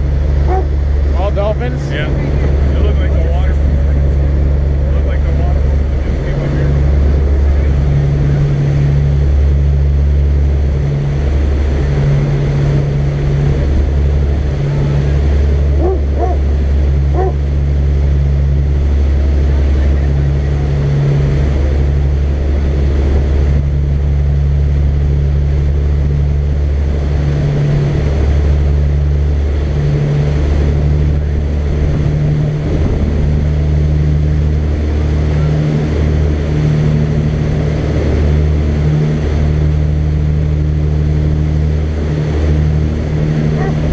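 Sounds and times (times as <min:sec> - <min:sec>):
boat engine droning: 0:00.0 - 0:43.9
rush of churning wake: 0:00.0 - 0:43.9.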